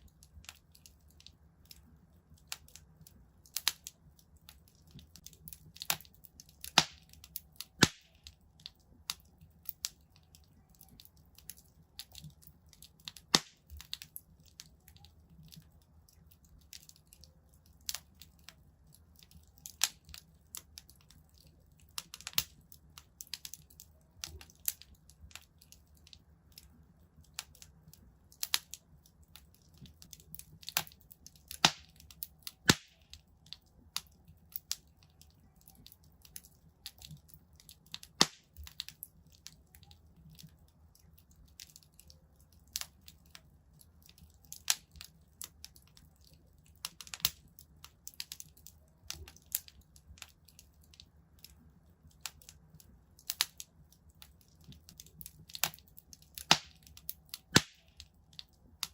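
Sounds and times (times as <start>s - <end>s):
low fire rumble: 0.0s - 58.9s
wood fire crackling: 0.0s - 58.9s.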